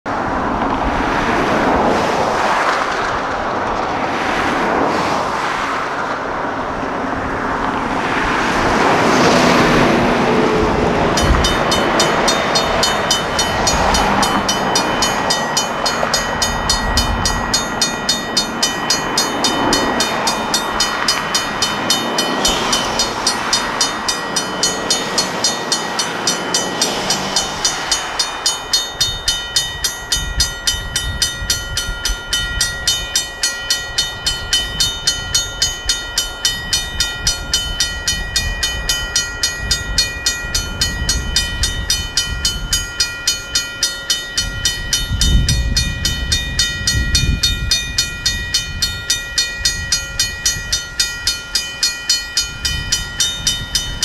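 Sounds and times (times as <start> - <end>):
road traffic passing: 0.1 - 54.0
railroad crossing bell ringing: 5.8 - 54.0.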